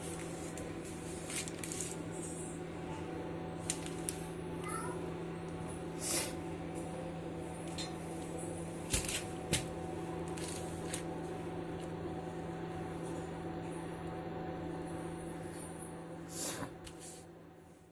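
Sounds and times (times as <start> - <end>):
low electrical hum: 0.0 - 17.9.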